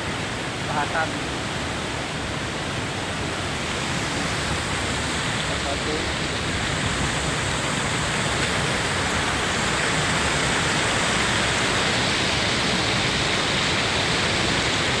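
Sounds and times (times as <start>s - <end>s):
waterfall crashing into pool: 0.0s - 15.0s.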